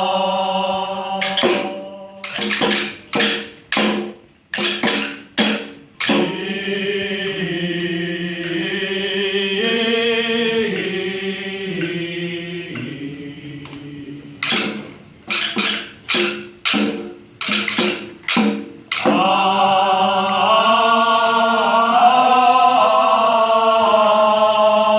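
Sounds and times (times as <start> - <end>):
sharp rhythmic beats: 0.0 - 24.3.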